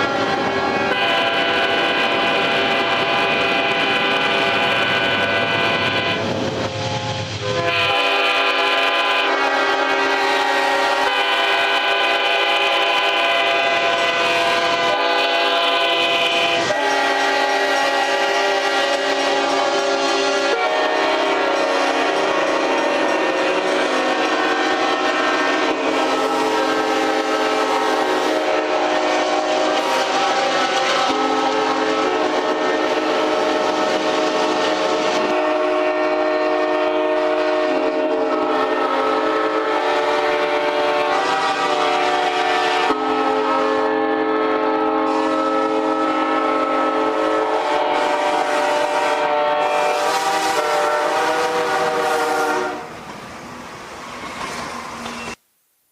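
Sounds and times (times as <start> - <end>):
train horns blaring: 0.0 - 53.0.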